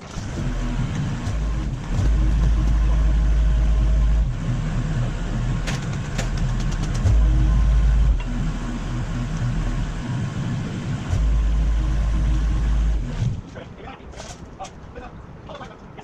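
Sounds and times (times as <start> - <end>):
machine engine low rumble: 0.0 - 16.0.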